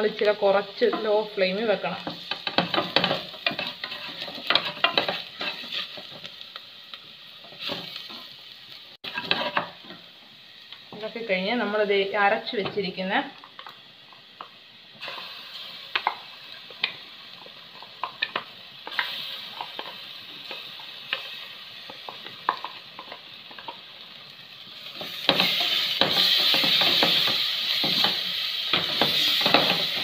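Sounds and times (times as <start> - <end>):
paste frying sizzle: 0.0 - 30.0.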